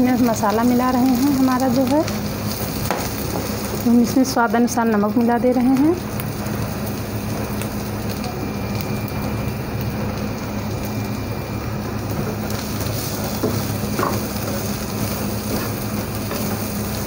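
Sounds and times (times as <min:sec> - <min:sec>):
potato sizzling in oil: 0:00.0 - 0:17.0
steady low hum: 0:00.0 - 0:17.0.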